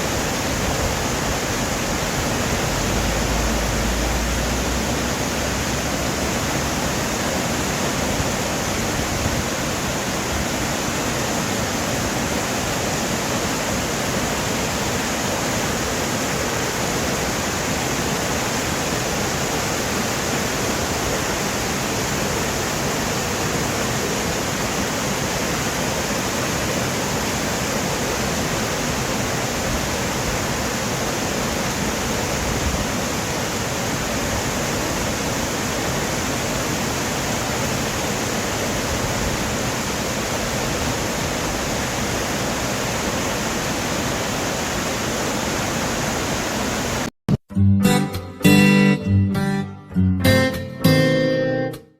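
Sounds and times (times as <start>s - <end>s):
stream rushing: 0.0s - 47.1s.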